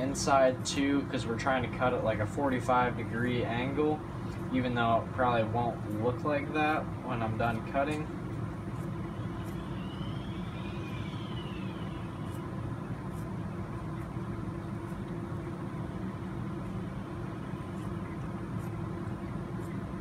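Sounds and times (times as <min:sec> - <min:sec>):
room noise hum: 0:00.0 - 0:20.0.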